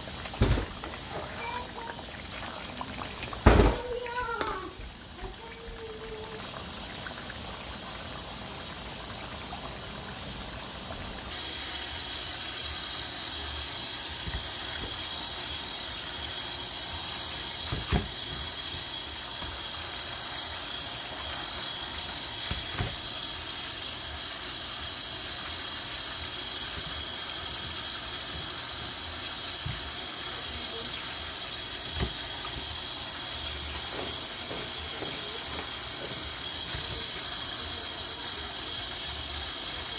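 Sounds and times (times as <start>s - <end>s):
tap running into colander: 0.0s - 7.8s, 11.1s - 39.9s.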